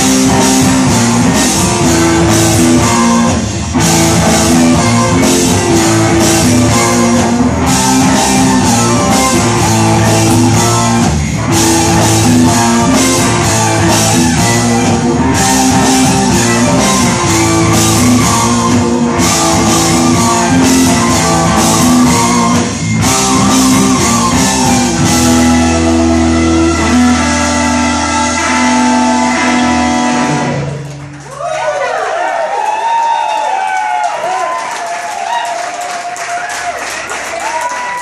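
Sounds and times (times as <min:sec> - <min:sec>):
electric guitars: 0:00.0 - 0:31.4
bass guitar: 0:00.0 - 0:31.6.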